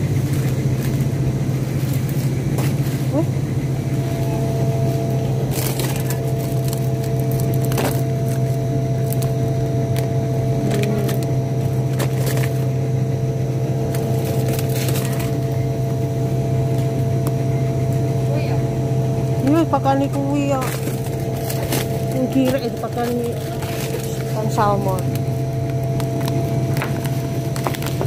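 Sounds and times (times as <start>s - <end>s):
freezer cabinets humming: 0.0s - 28.0s
plastic packages crackling: 4.0s - 18.1s, 19.4s - 28.0s.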